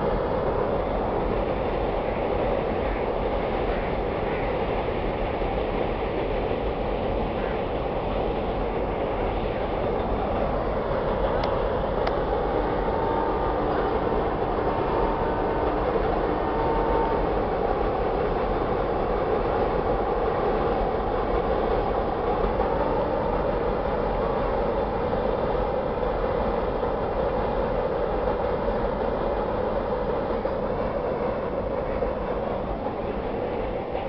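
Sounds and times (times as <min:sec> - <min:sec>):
freight train rolling over bridge: 0:00.0 - 0:34.0.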